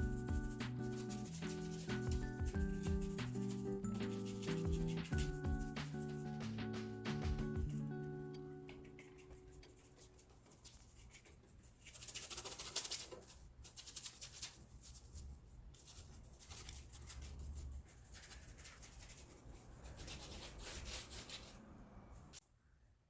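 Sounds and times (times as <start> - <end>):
paintbrush scrubbing on paper: 0.0 - 7.1, 8.8 - 22.4.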